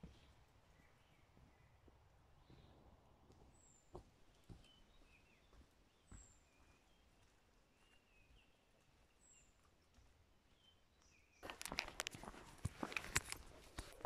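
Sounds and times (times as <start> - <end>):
soft bird chirps: 0.0 - 12.1.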